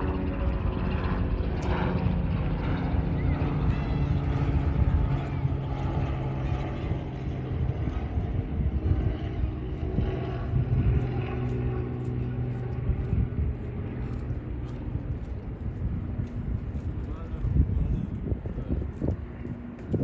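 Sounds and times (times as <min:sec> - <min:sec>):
steady engine drone: 0:00.0 - 0:20.0
wind rumble on microphone: 0:00.0 - 0:20.0.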